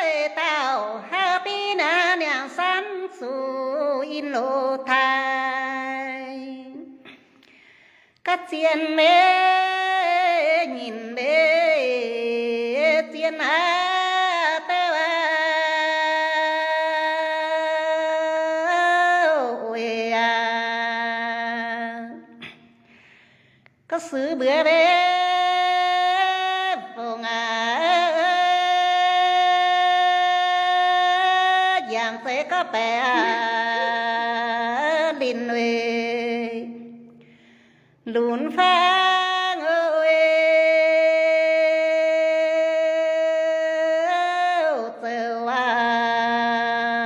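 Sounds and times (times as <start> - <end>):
woman singing unaccompanied: 0.0 - 7.0, 8.2 - 22.4, 23.9 - 37.1, 38.1 - 47.0.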